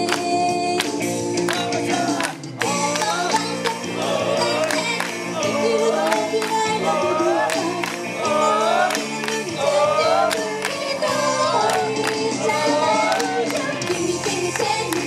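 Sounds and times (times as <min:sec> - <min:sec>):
young women singing pop: 0:00.0 - 0:15.0.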